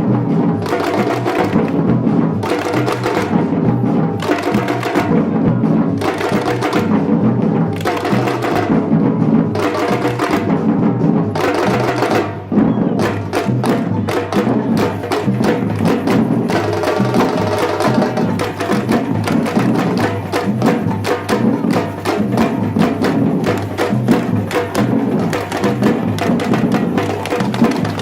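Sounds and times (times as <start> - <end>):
samba drum group playing: 0.0 - 28.0.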